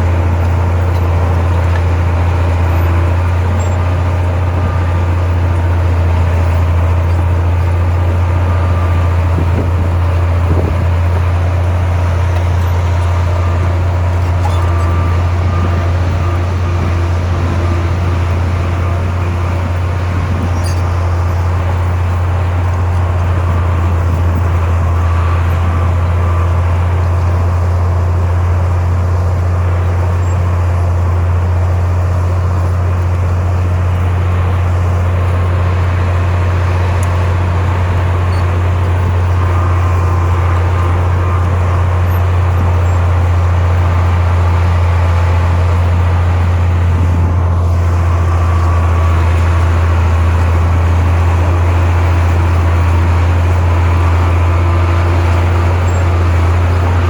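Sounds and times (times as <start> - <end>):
heavy diesel machinery drone: 0.0 - 57.0.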